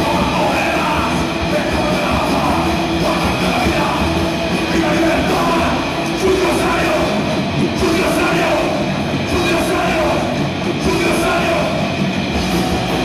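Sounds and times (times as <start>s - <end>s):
drum kit: 0.0s - 13.0s
electric guitars: 0.0s - 13.0s.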